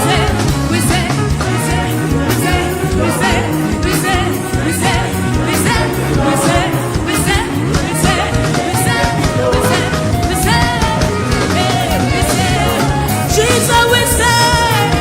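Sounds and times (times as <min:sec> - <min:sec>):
band playing upbeat song: 0:00.0 - 0:15.0
voices singing: 0:00.0 - 0:15.0.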